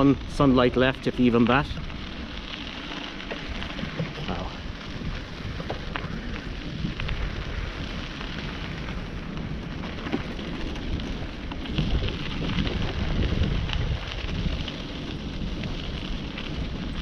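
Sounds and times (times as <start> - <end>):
bicycle tyre noise: 0.0 - 17.0
small crackles and rattles: 0.0 - 17.0
wind buffeting microphone: 0.0 - 17.0.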